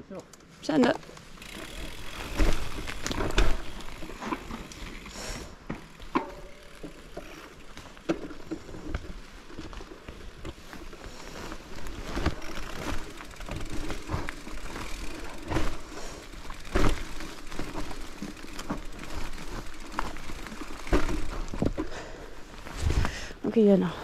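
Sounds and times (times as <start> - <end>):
bike rattling over rough trail: 0.5 - 24.0
bike knocking on bumps: 1.4 - 23.2.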